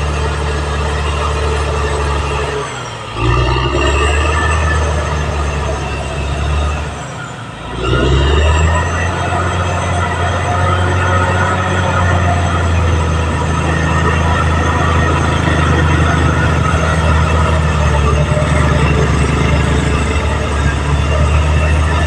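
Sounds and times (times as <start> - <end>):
bulldozer diesel engine under load: 0.0 - 22.0.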